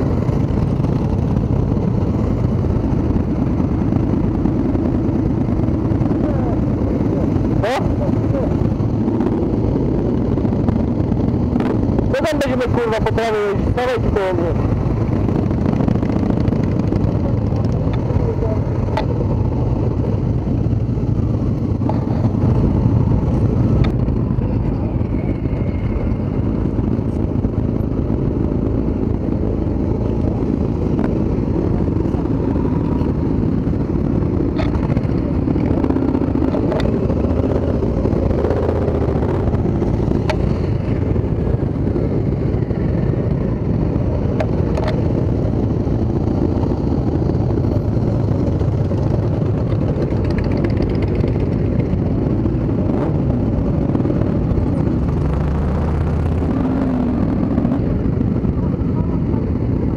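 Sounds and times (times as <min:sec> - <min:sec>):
motorcycle engines idling: 0:00.0 - 0:52.7.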